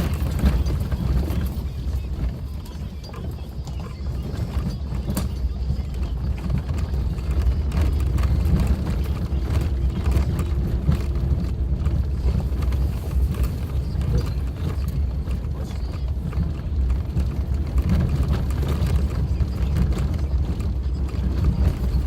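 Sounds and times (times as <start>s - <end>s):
car engine and tyres rumbling: 0.0s - 22.0s
knocks and rattles from rough road: 0.0s - 22.0s.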